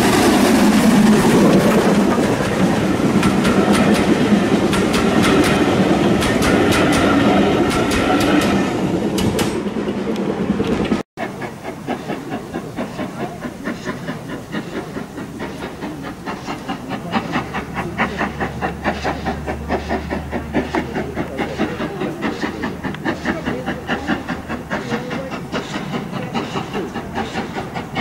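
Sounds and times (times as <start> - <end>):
steam hissing: 0.0 - 9.6, 11.2 - 28.0
steam locomotive exhaust beating: 0.0 - 28.0.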